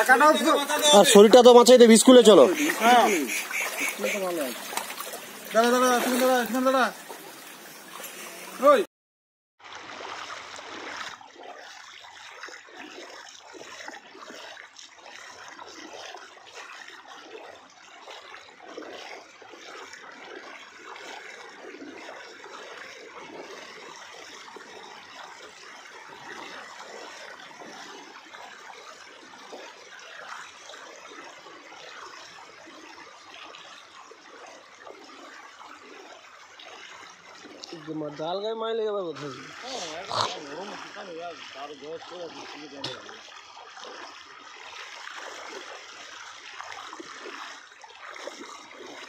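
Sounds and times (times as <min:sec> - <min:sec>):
floodwater running across road: 0:00.0 - 0:08.9, 0:09.6 - 0:49.0.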